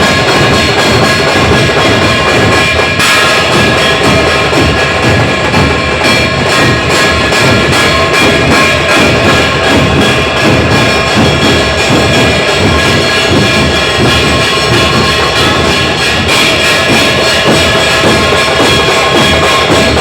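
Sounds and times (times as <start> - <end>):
band drumming: 0.0 - 20.0.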